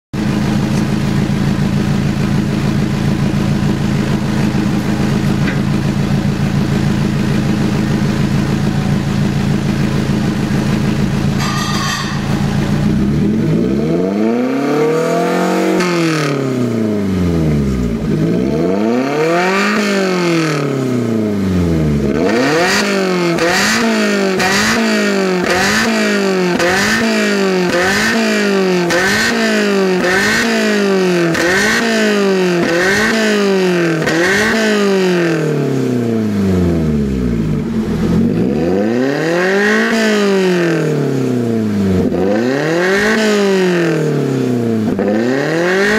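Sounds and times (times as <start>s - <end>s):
car engine revving: 0.3s - 45.9s.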